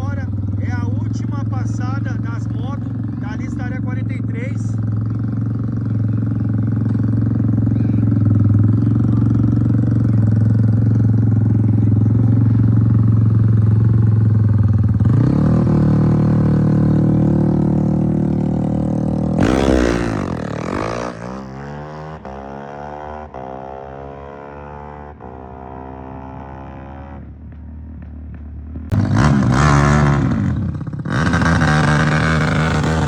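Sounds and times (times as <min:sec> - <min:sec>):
motorcycle engines revving and accelerating: 0:00.0 - 0:33.0.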